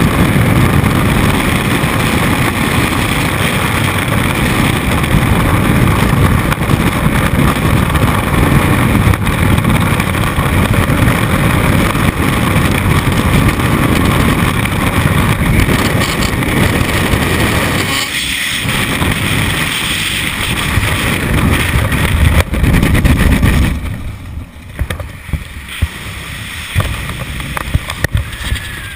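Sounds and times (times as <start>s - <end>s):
gusty wind: 0.0s - 28.9s
wind rushing over microphone: 0.0s - 28.9s.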